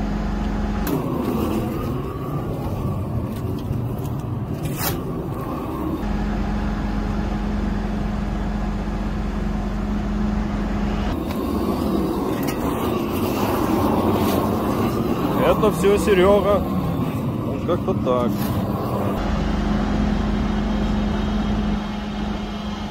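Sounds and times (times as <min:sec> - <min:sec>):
construction machinery engine running: 0:00.0 - 0:22.9.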